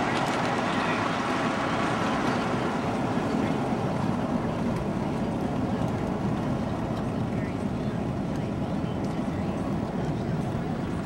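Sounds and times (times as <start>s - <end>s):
vehicle road and engine noise: 0.0s - 11.0s.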